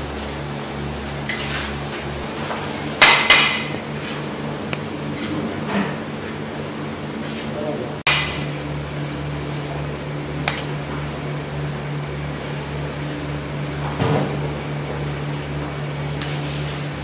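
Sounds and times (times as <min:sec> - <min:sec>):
machine hum with low throb: 0:00.0 - 0:17.0.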